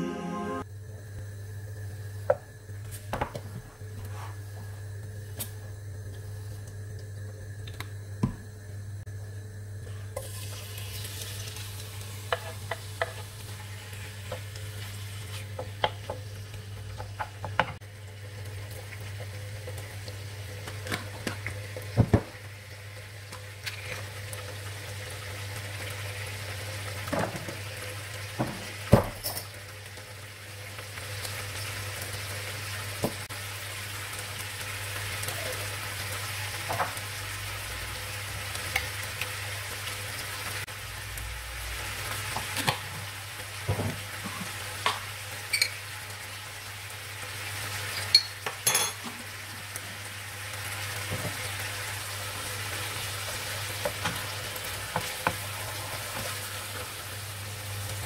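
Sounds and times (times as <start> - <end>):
chicken sizzling in oil: 9.0 - 58.0.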